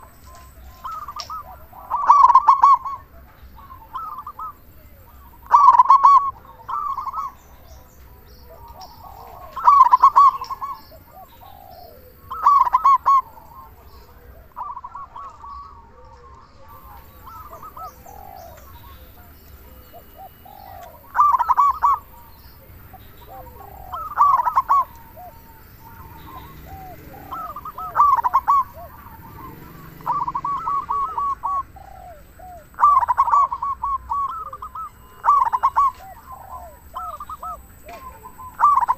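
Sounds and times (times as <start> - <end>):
dove cooing song: 0.0 - 38.9.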